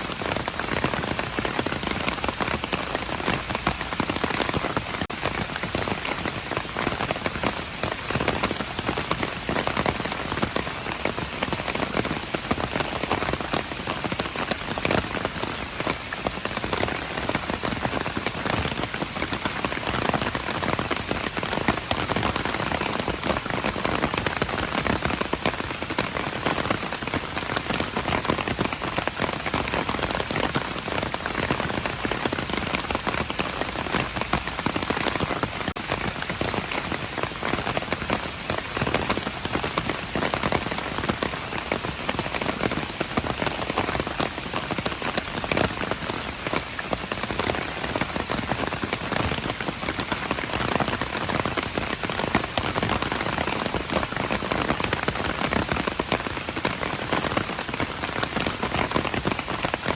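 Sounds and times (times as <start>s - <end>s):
rain pattering on hard surfaces: 0.0s - 59.9s.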